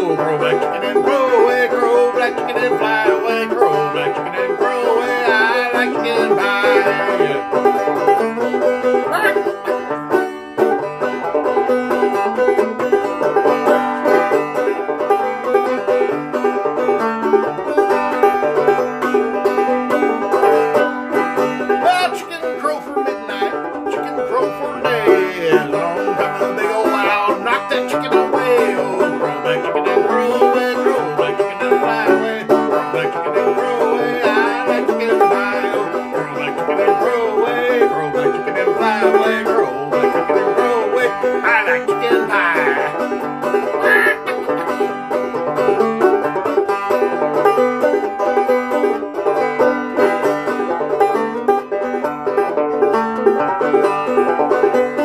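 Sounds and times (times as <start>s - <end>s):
banjo playing old-time tune: 0.0s - 55.0s.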